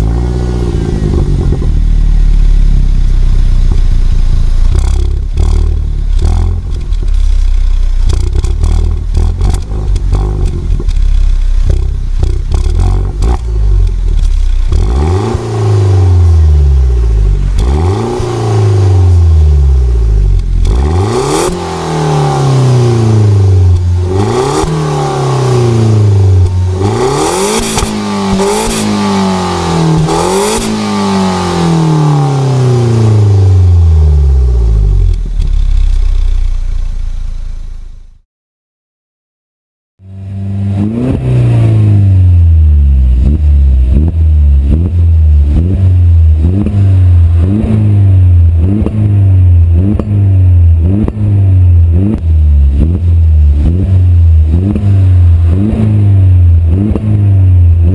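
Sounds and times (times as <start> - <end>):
car engine revving: 0.0 - 38.2, 40.0 - 57.9.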